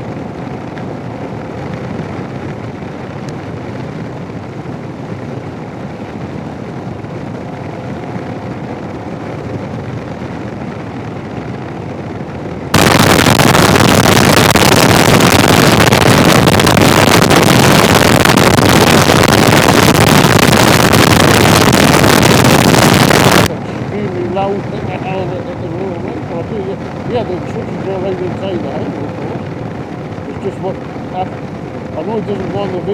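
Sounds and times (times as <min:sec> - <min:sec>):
muffled motorcycle riding noise: 0:00.0 - 0:32.9
wind noise and static: 0:00.0 - 0:32.9.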